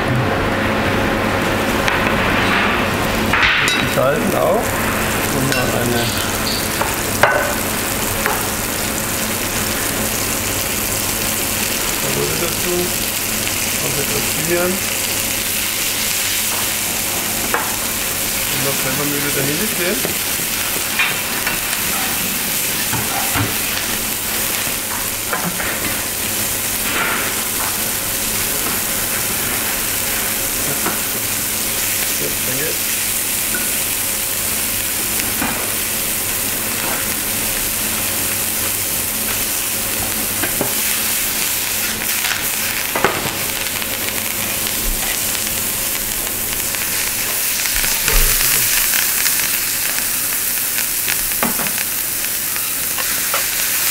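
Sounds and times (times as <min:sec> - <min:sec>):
mushrooms sizzling in frying pan: 0:01.0 - 0:53.9.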